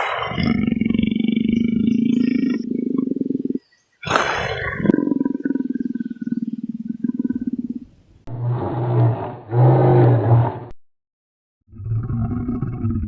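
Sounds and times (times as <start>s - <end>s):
big cat growling: 0.0s - 10.8s.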